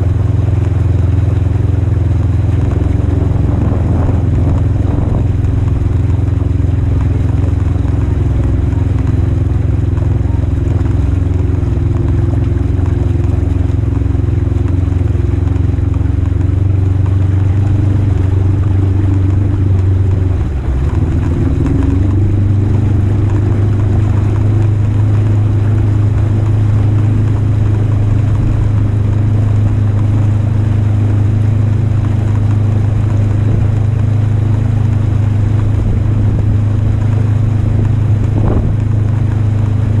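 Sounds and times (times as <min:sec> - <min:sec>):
engine running under load: 0:00.0 - 0:40.0.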